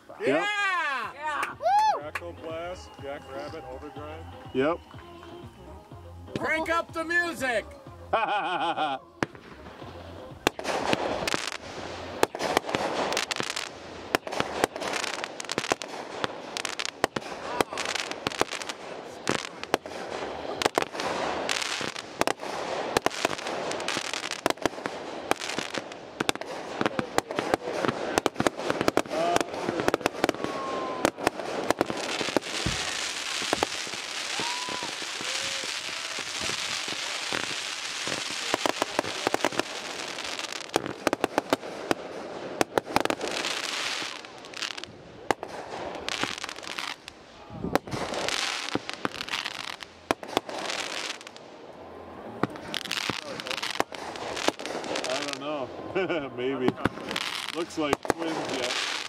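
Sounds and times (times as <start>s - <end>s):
firework bangs: 0.0s - 59.0s
fireworks crackling: 0.0s - 59.0s.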